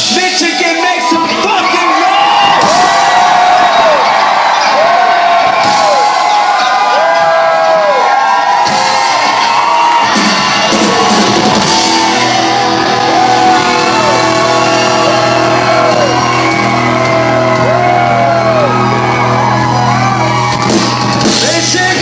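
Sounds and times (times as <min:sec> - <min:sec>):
live rock music: 0:00.0 - 0:22.0
people shouting and singing: 0:00.0 - 0:22.0.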